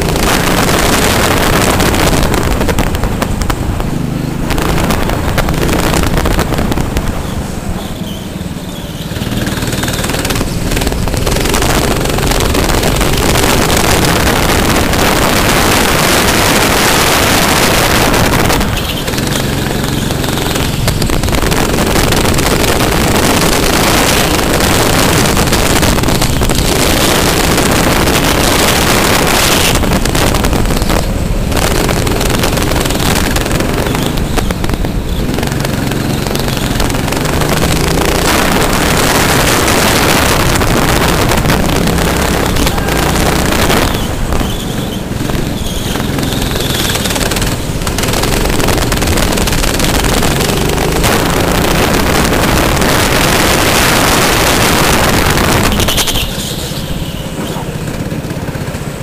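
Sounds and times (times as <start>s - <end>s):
wind noise on microphone: 0.0s - 8.6s, 9.2s - 59.0s
go-kart engine running hard: 0.0s - 59.0s.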